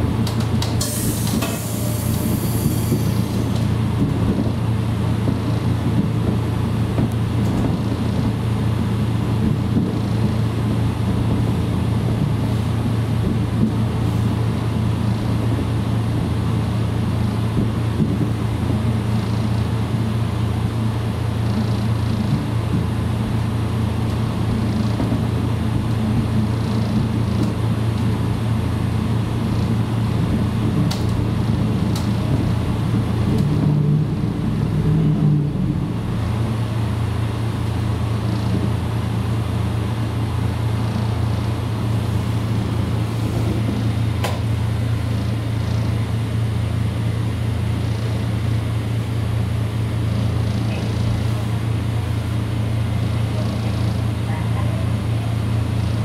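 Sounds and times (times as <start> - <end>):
diesel engine humming: 0.0 - 56.0.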